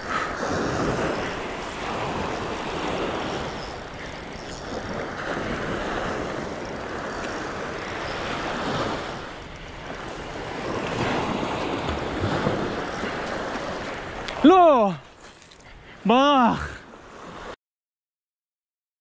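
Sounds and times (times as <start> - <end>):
small waves breaking on sand: 0.0 - 4.1, 4.8 - 17.6
wind buffeting microphone: 0.0 - 16.1.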